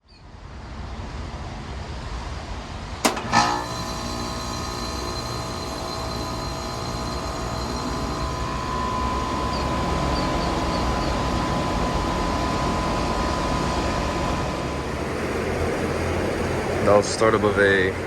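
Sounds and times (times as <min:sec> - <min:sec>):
air conditioner hum and whine: 0:02.0 - 0:18.0.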